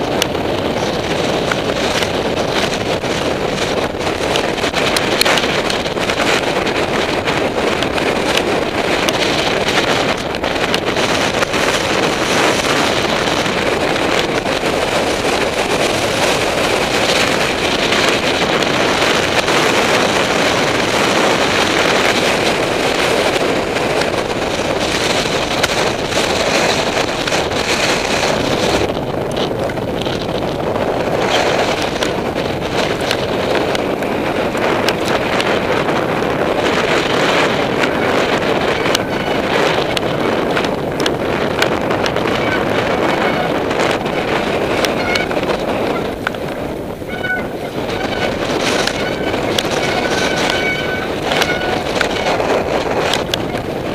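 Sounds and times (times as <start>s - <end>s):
bike knocking and rattling: 0.0s - 53.9s
wind buffeting microphone: 0.0s - 53.9s.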